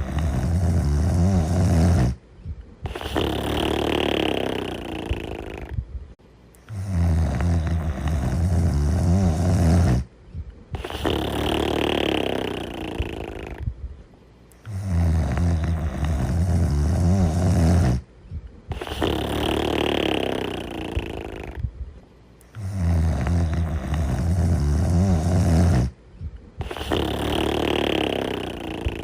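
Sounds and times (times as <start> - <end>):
deep snoring: 0.0 - 2.2, 2.8 - 5.8, 6.6 - 10.1, 10.7 - 13.7, 14.6 - 18.1, 18.7 - 21.7, 22.5 - 26.0, 26.6 - 29.0.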